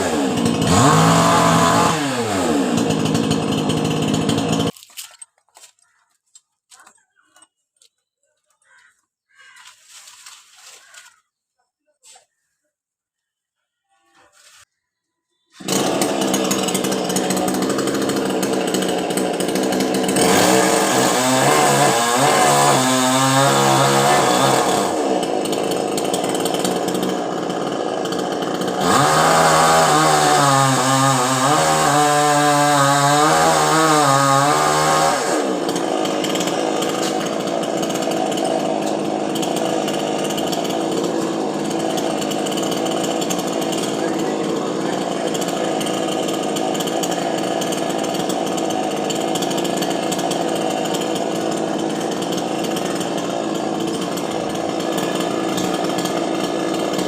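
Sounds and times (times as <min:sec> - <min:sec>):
chainsaw cutting wood: 0:00.0 - 0:08.9, 0:15.5 - 0:57.0.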